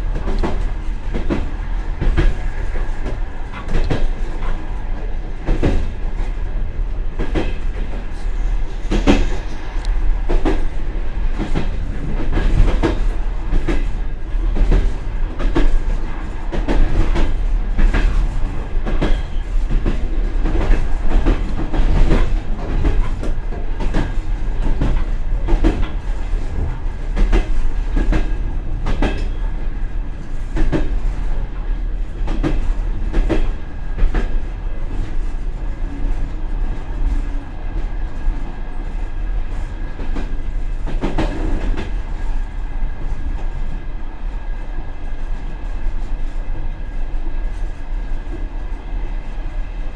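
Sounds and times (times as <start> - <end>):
train carriage rumble: 0.0 - 49.9.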